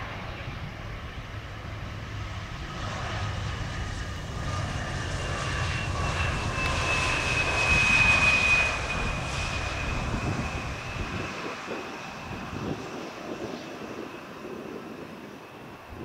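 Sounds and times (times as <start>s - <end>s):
jet engine high whine: 0.0s - 16.0s
jet engine rush: 0.0s - 16.0s.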